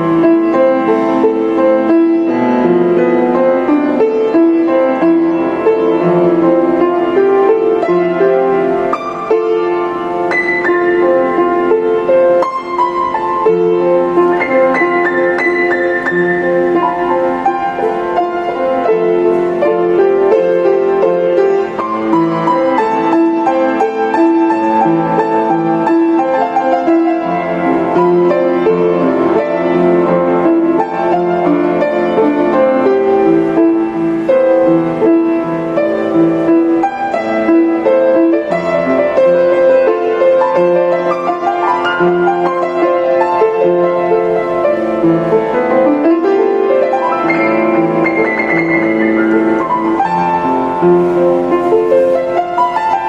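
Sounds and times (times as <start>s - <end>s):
instrumental piano music: 0.0s - 53.0s.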